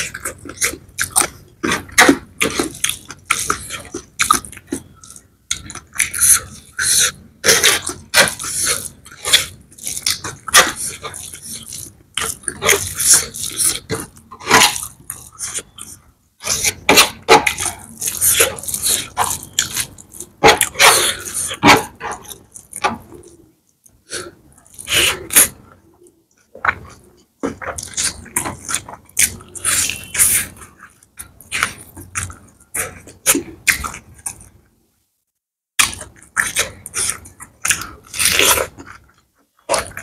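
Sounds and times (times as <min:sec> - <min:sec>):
person chewing and lip-smacking: 0:00.0 - 0:34.6, 0:35.8 - 0:40.0.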